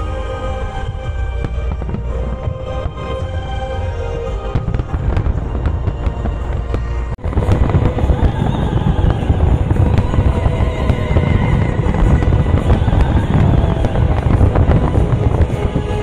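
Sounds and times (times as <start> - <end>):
fireworks bursting and crackling: 0.0 - 16.0
orchestral music: 0.0 - 16.0.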